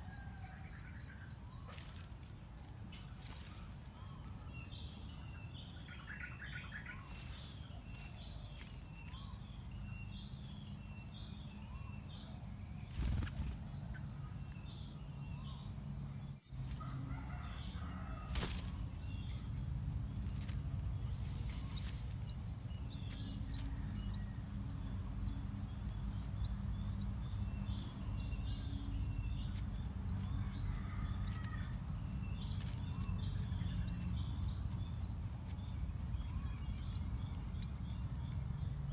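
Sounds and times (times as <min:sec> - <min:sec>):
high-pitched insect drone: 0:00.0 - 0:38.9
small birds chirping: 0:00.0 - 0:38.9.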